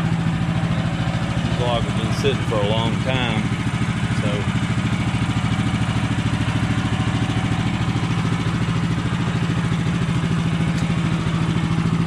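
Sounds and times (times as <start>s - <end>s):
gasoline engine idling: 0.0s - 12.0s.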